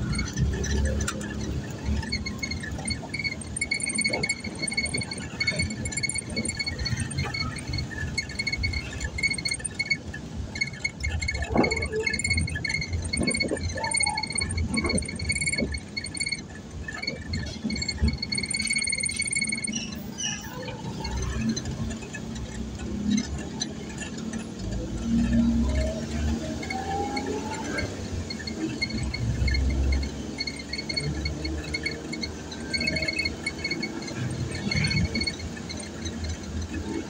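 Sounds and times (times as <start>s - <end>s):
car engine and road rumble: 0.0s - 37.0s
rapid high-pitched beeps: 0.0s - 37.0s.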